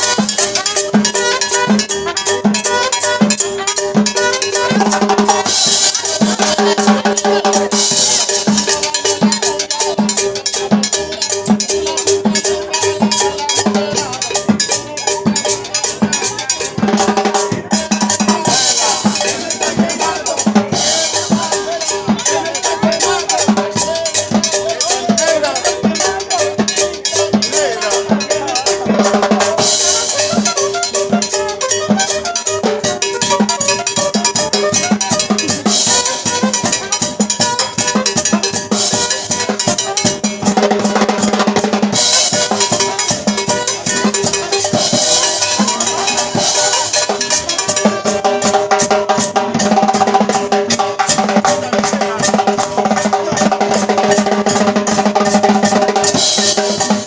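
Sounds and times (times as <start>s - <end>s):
cowbell beat: 0.0s - 57.0s
live dance band music: 0.0s - 57.0s.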